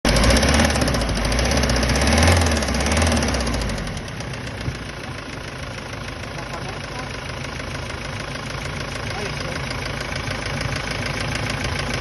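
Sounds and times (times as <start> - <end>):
diesel engine knocking: 0.1 - 12.0.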